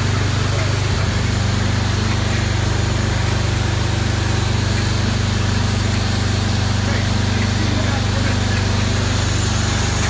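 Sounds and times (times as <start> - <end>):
concrete spraying hiss: 0.0 - 10.0
low machine drone: 0.0 - 10.0.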